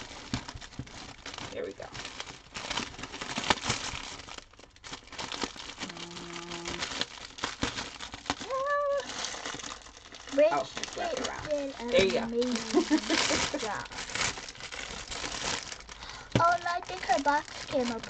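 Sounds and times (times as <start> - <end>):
cellophane and paper crinkling: 0.0 - 18.0.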